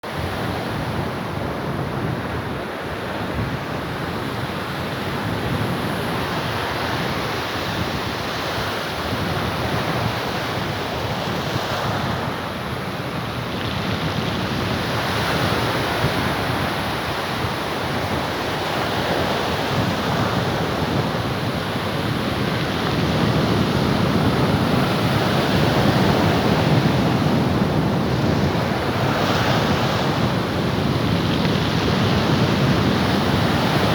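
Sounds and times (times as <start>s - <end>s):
sea waves washing ashore: 0.0s - 33.9s
wind buffeting microphone: 0.0s - 33.9s.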